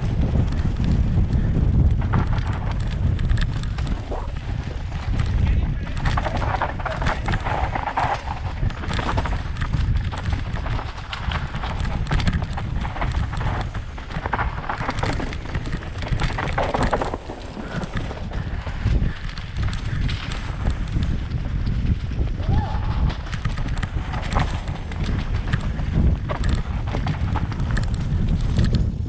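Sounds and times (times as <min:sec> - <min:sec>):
bike clattering over bumps: 0:00.0 - 0:29.0
bike tyres on loose dirt: 0:00.0 - 0:29.0
wind buffeting microphone: 0:00.0 - 0:29.0.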